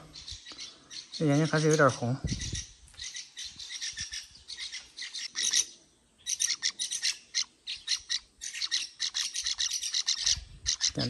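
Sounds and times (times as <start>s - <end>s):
songbirds squawking: 0.0s - 11.0s.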